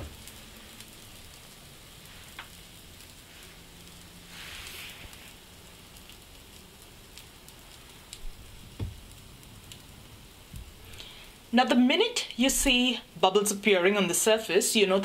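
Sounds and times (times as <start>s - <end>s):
batter sizzling in a pan: 0.0s - 15.0s.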